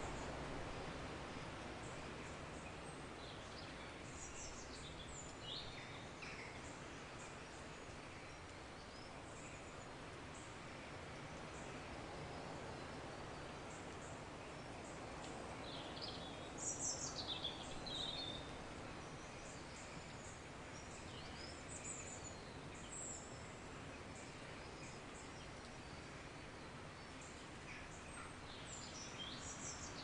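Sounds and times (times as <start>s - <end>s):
soft outdoor hiss: 0.0s - 30.0s.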